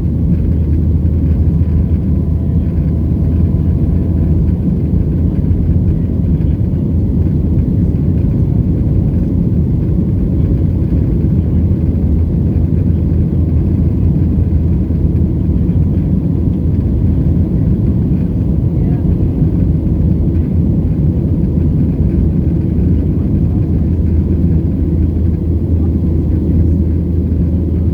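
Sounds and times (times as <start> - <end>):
airplane cabin engine rumble: 0.0 - 27.9.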